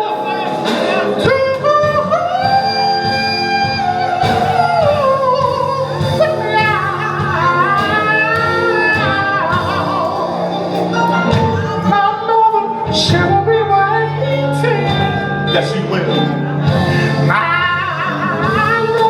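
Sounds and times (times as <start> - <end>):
band accompaniment: 0.0 - 19.0
lead vocalist singing gospel: 0.0 - 19.0.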